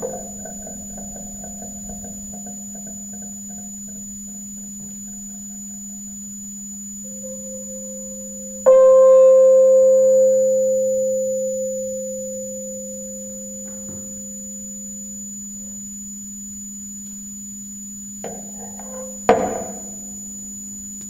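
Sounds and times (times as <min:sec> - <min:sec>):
low hum: 0:00.0 - 0:21.0
struck ringing tone: 0:00.0 - 0:21.0
thin high whine: 0:00.0 - 0:21.0.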